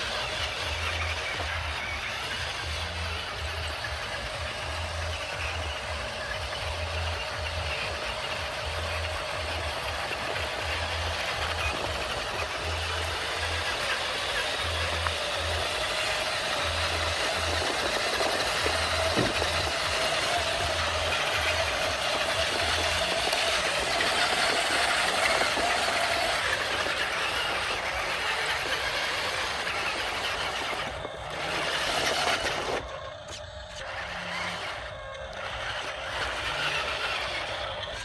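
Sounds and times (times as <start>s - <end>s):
small electric motors whirring: 0.0s - 38.0s.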